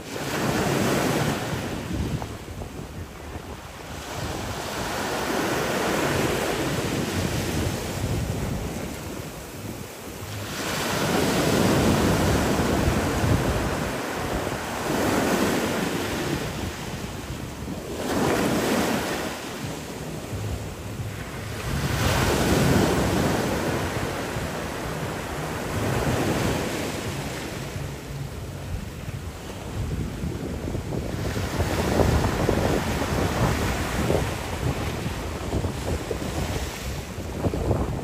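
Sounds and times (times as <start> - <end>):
ocean waves breaking over rocks: 0.0 - 38.0.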